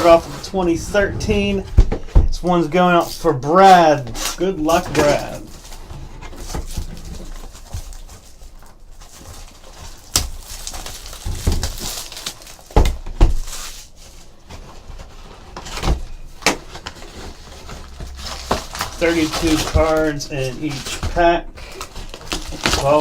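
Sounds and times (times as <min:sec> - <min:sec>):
plastic wrap rustling: 0:00.0 - 0:23.0.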